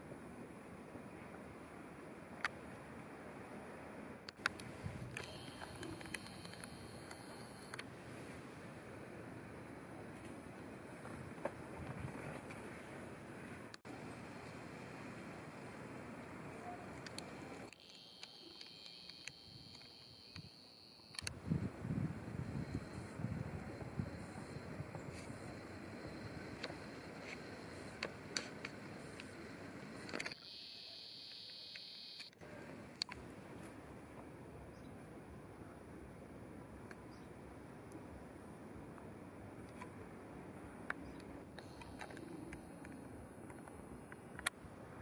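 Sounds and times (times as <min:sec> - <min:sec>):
rustle of air: 0:00.0 - 0:30.4, 0:32.2 - 0:45.0
faint outdoor background noise: 0:00.0 - 0:45.0.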